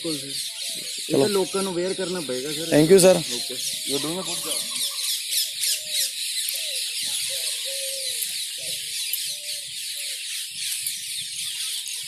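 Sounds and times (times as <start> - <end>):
repeating short bird calls: 0.0 - 12.0.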